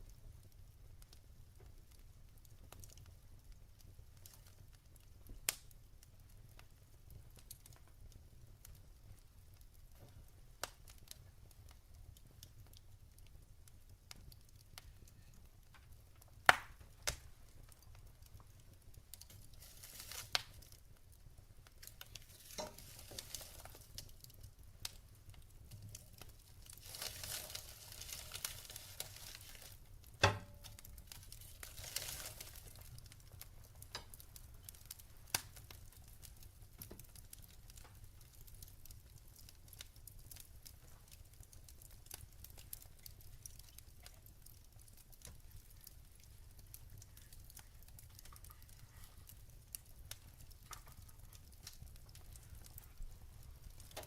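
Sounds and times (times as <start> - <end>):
logs crackling in fireplace: 0.0 - 54.0
sharp pops of burning logs: 0.5 - 54.0.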